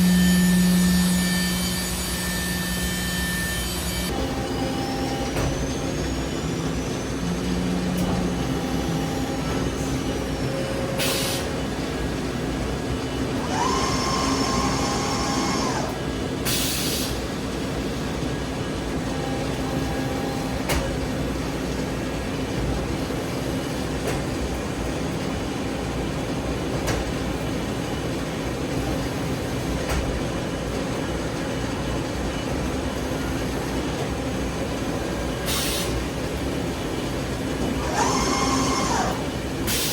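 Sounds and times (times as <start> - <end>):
machine whine: 0.0 - 39.9
machining center humming: 0.0 - 39.9.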